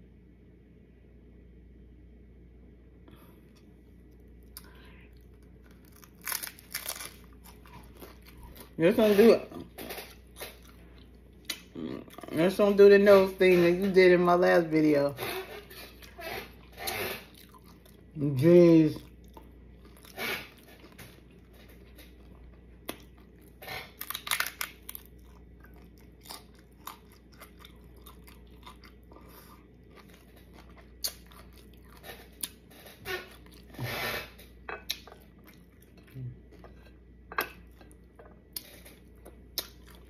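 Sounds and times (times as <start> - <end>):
crunching bites and chewing: 3.6 - 12.5, 15.3 - 18.1, 19.0 - 36.8, 37.4 - 40.0.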